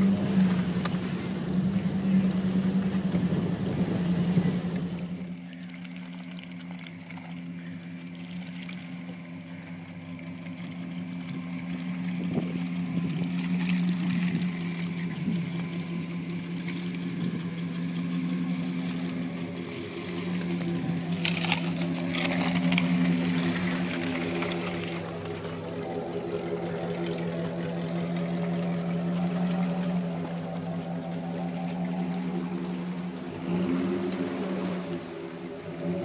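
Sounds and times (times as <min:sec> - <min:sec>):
car engine at low revs: 0:00.0 - 0:36.0
engine running inside a cab: 0:00.0 - 0:36.0.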